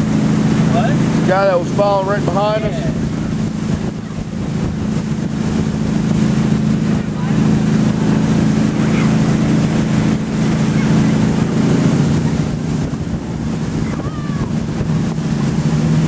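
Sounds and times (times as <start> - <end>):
churning wake rushing: 0.0 - 16.0
motorboat engine running: 0.0 - 16.0
wind buffeting microphone: 0.0 - 16.0.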